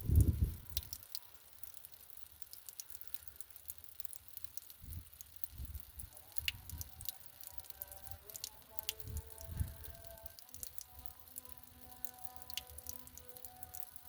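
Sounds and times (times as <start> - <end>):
water trickling over rocks: 0.0 - 14.0.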